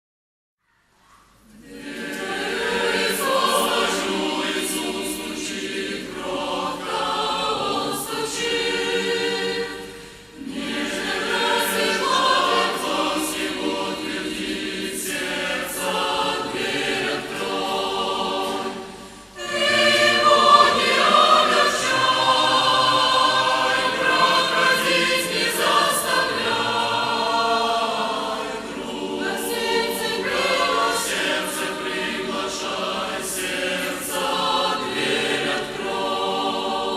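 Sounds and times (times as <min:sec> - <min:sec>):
choir breaths: 0:00.8 - 0:36.9
choir singing a hymn: 0:01.4 - 0:36.9.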